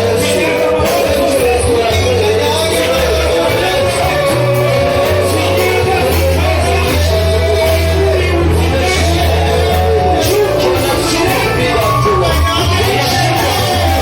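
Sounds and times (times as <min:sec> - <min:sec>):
held bass notes: 0:00.0 - 0:14.0
voices singing and calling out: 0:00.0 - 0:14.0.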